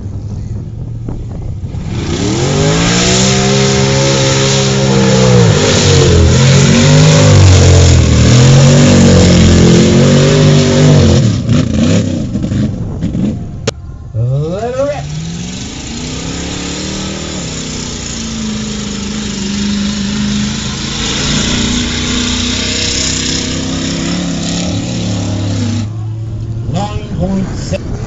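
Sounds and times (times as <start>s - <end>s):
truck engine revving: 1.0s - 28.0s
spraying mud and spinning tyres: 1.1s - 13.2s, 14.6s - 28.0s.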